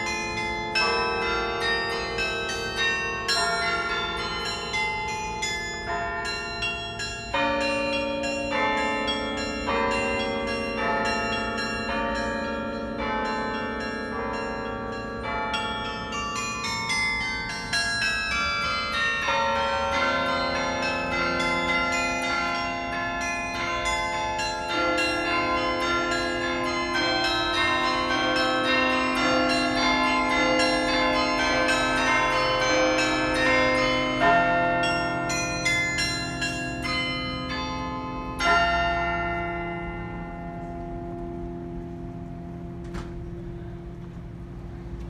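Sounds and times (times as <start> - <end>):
carillon bells playing melody: 0.0 - 42.7.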